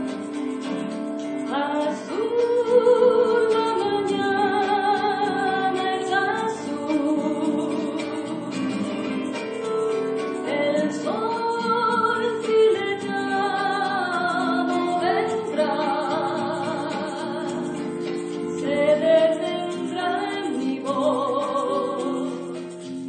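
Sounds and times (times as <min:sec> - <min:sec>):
instrumental accompaniment: 0:00.0 - 0:23.0.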